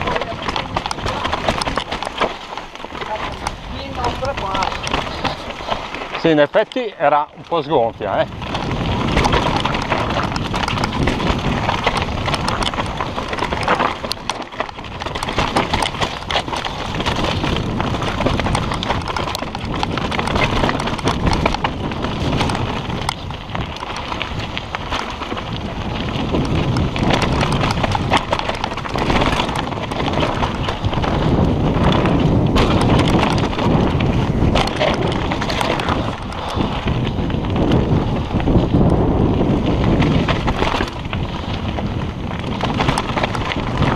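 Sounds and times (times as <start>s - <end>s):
bike clattering and rattling: 0.0s - 43.9s
tyres crunching over stones: 0.0s - 43.9s.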